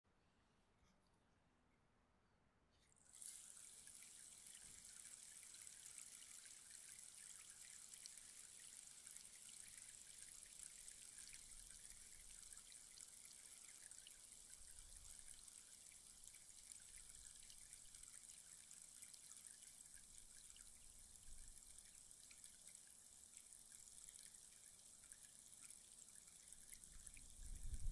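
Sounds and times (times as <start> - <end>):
rainstick trickling: 3.0 - 27.9.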